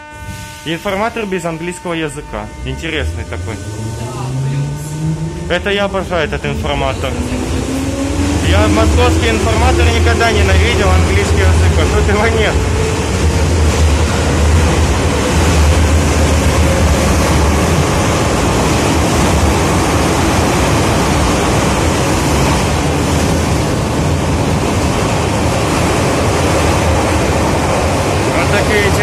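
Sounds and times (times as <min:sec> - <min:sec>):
low hum: 0:00.0 - 0:24.9
wheels rumbling on rail: 0:00.0 - 0:29.0.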